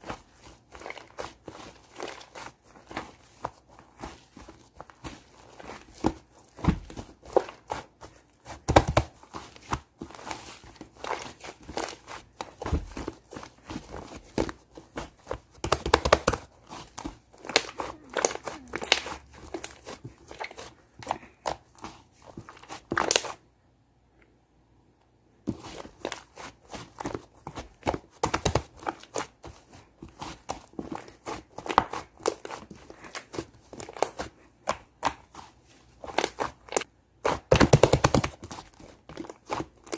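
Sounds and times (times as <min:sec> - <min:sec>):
slime crackling and squishing: 0:00.0 - 0:23.4, 0:25.5 - 0:39.9.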